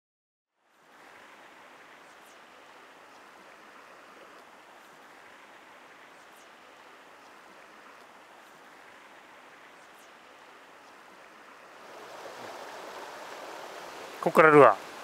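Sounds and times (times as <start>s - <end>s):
stream running over stones: 0.6s - 15.0s.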